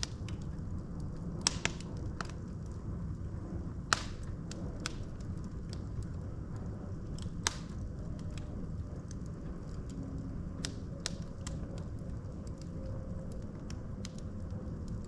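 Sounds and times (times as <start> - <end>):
fire rumbling in a fireplace: 0.0 - 15.0
logs crackling and popping: 0.0 - 15.0.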